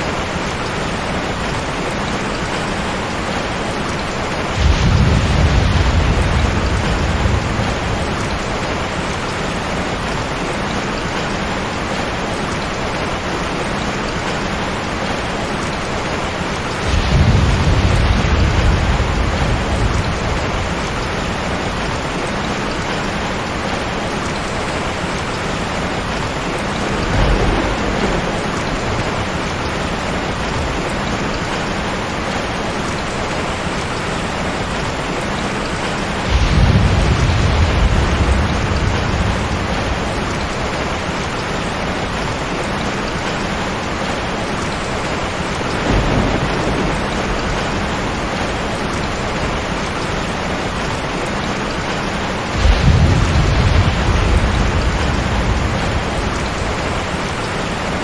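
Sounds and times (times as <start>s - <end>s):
heavy rain pouring: 0.0s - 58.0s
low thunder rumbles: 0.0s - 58.0s.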